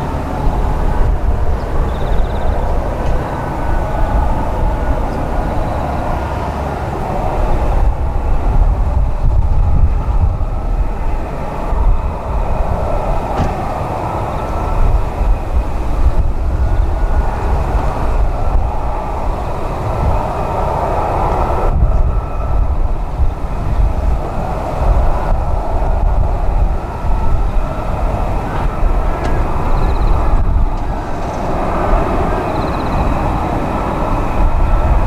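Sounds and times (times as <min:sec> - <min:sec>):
faint whining tones: 0:00.0 - 0:35.0
jet engine rumble: 0:00.0 - 0:35.0.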